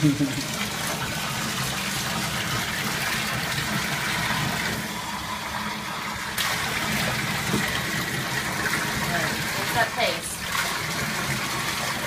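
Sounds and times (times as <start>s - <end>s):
bathtub tap running: 0.0s - 12.0s.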